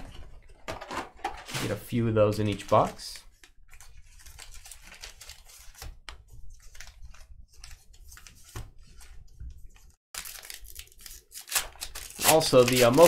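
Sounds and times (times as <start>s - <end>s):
card boxes and foil packs handled: 0.0s - 8.4s, 10.2s - 13.0s.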